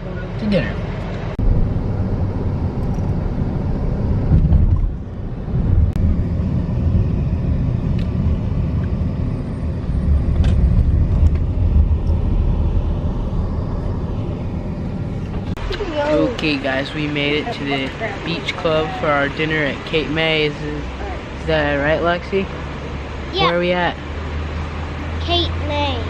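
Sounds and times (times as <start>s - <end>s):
vehicle road rumble: 0.0s - 26.0s.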